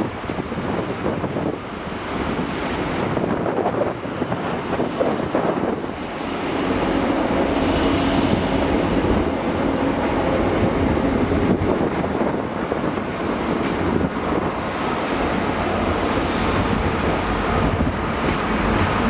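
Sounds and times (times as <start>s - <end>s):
train wheels on rail: 0.0s - 19.0s
diesel engines rumbling: 2.8s - 19.0s.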